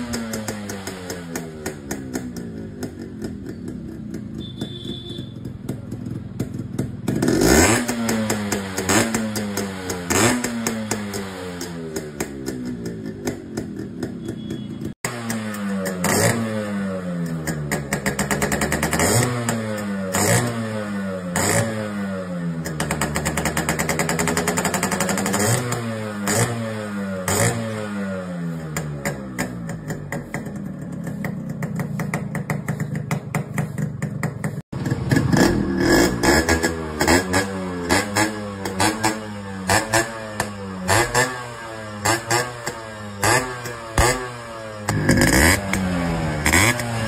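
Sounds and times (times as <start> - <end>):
two-stroke motorcycle engine revving: 0.0 - 47.0.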